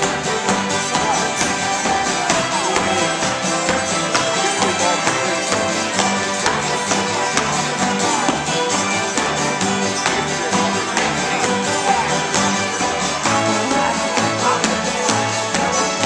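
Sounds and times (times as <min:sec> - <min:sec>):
acoustic string band playing: 0:00.0 - 0:16.0
shoes tapping on wooden floor: 0:00.0 - 0:16.0.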